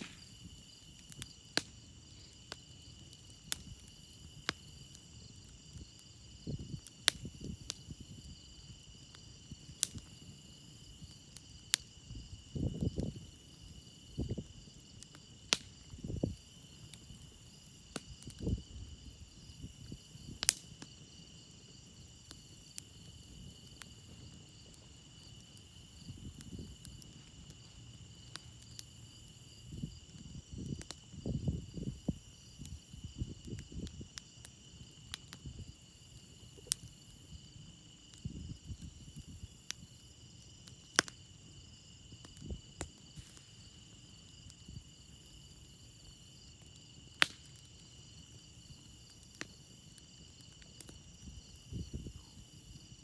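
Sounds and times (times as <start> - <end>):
campfire crackling and popping: 0.0 - 53.0
crickets chirping: 0.1 - 53.0.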